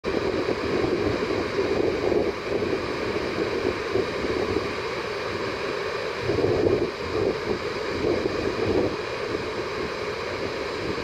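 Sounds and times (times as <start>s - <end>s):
wind buffeting microphone: 0.1s - 4.7s, 6.2s - 11.0s.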